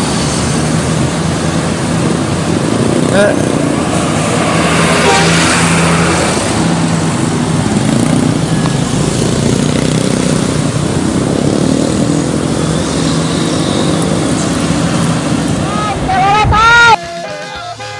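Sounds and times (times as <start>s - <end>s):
road noise: 0.0s - 17.9s.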